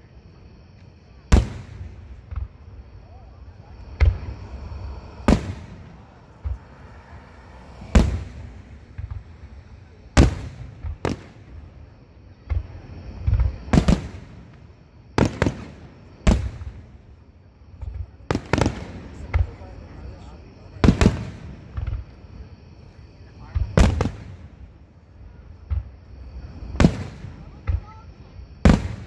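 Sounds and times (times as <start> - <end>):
fireworks bursting: 1.2 - 29.0.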